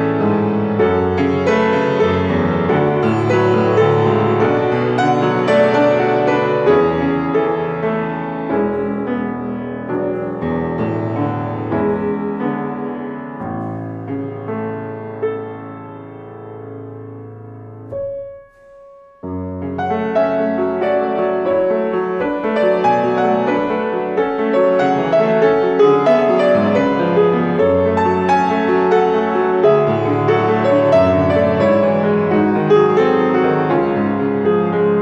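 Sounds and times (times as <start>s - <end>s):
grand piano playing: 0.0s - 35.0s.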